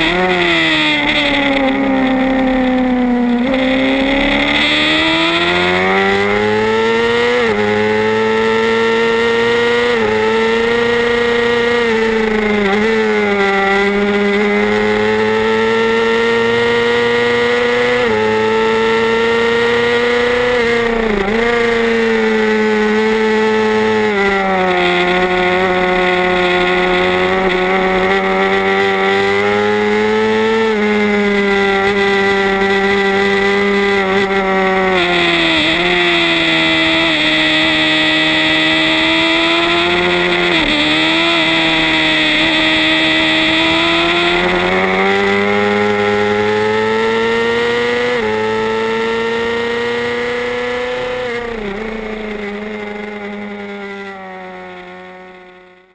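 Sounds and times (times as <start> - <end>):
racing motorcycle engine at high revs: 0.0 - 55.9.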